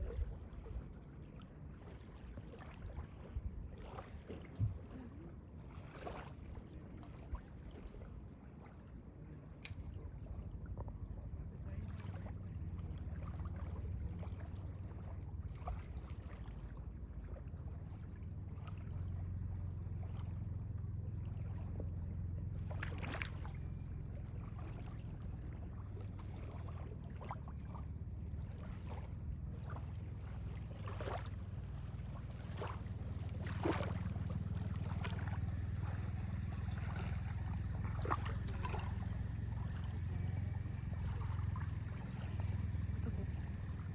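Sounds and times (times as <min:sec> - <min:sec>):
boat motor rumbling: 0:00.0 - 0:43.9
water splashing against hull: 0:00.0 - 0:43.9.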